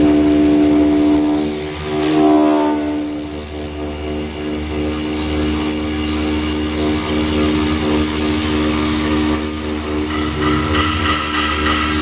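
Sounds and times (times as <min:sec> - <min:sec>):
foam router whine: 0:00.0 - 0:12.0.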